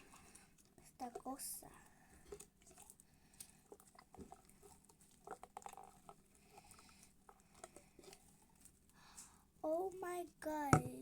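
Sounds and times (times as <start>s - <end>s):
sticky slime squishing: 0.0s - 9.1s.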